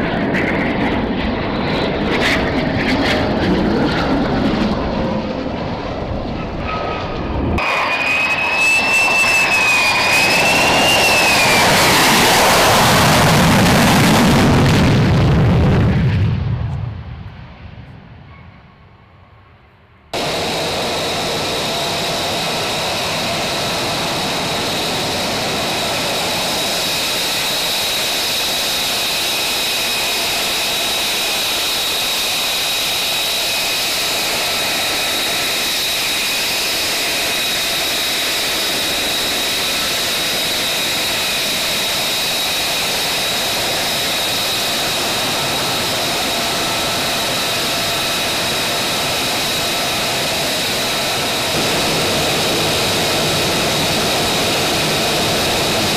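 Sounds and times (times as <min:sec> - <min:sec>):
jet engine idling: 0:00.0 - 0:17.9, 0:20.1 - 0:55.9.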